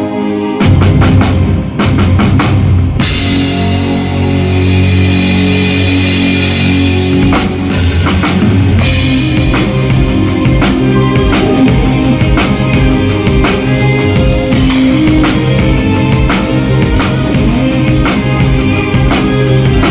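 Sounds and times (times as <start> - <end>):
band track with held chords: 0.0 - 19.9
rock drum kit: 0.6 - 19.9.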